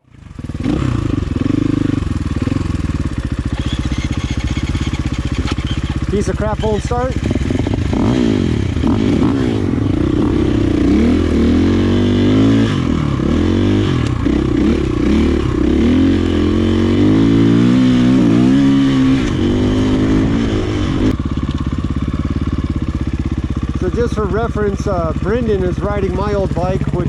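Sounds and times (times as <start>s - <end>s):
dirt bike engine idling: 0.0s - 27.0s
dirt bike engine revving: 0.0s - 27.0s.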